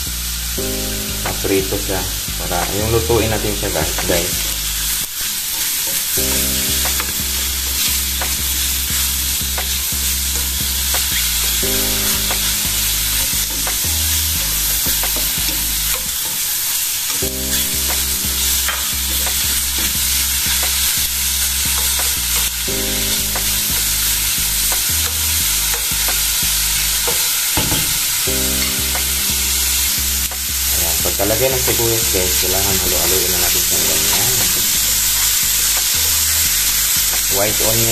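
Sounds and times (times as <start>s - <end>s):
low repeating tune: 0.0s - 5.1s, 6.2s - 16.2s, 17.2s - 27.2s, 28.2s - 37.9s
food sizzling in frying pan: 0.0s - 37.9s.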